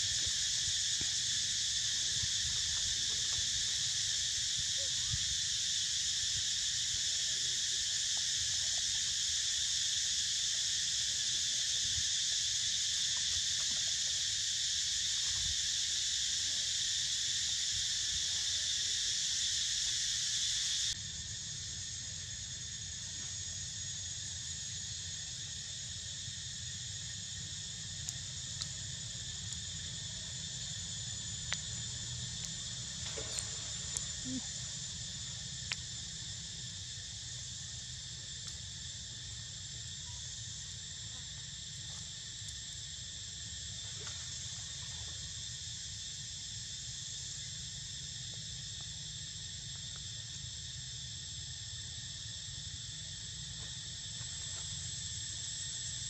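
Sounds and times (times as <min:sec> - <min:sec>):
shrill insect chorus: 0:00.0 - 0:56.0.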